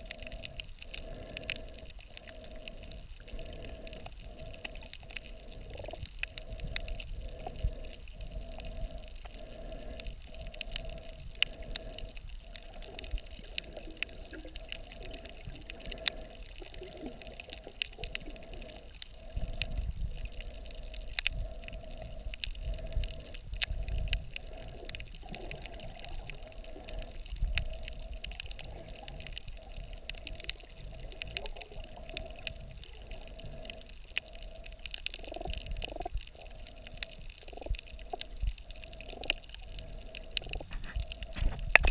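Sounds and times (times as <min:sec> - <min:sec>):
sharp clicks and crackles: 0:00.0 - 0:41.9
underwater sloshing rumble: 0:00.0 - 0:41.9.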